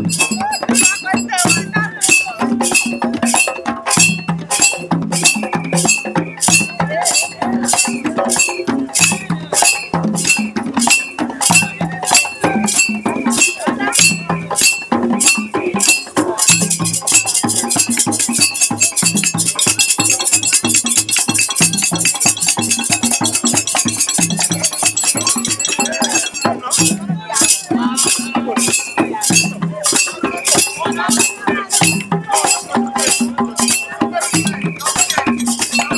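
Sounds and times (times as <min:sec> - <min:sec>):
hand drumming: 0:00.0 - 0:35.9.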